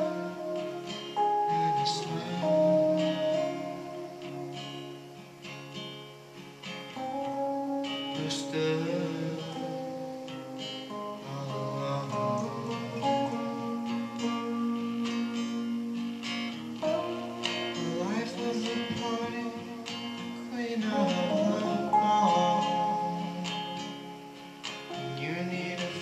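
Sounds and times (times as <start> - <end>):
electric guitar lead: 0.0 - 26.0
strummed acoustic guitar: 0.0 - 26.0.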